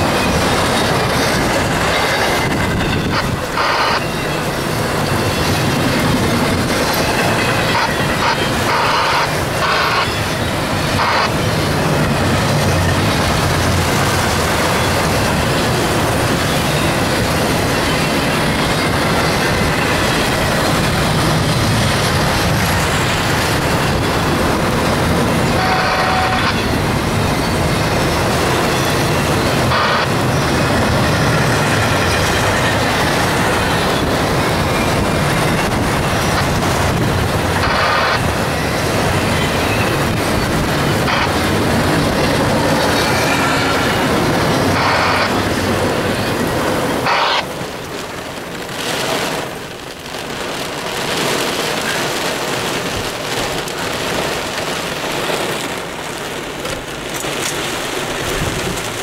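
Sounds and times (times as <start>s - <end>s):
freight train wheels rumbling: 0.0s - 59.0s
heavy rain hiss: 0.0s - 59.0s.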